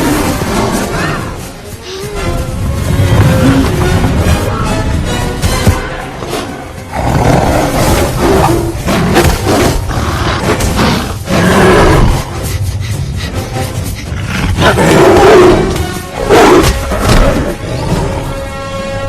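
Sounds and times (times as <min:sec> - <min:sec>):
film score music: 0:00.0 - 0:19.0.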